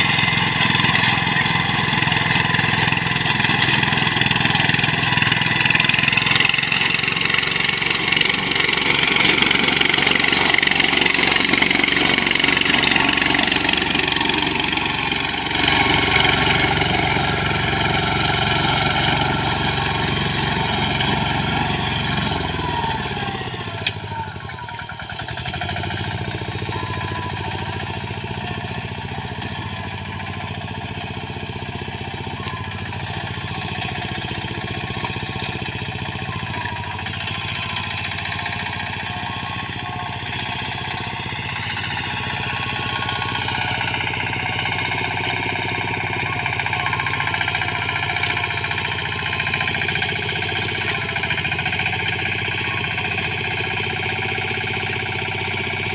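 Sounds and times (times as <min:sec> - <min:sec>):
reaper engine running: 0:00.0 - 0:55.9.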